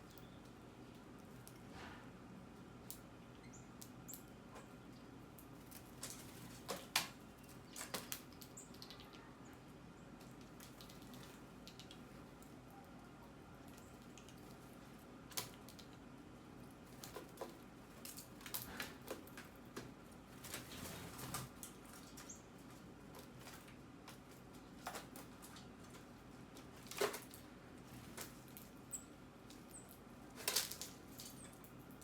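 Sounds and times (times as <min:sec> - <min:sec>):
birds pecking at seed: 0:00.0 - 0:32.0.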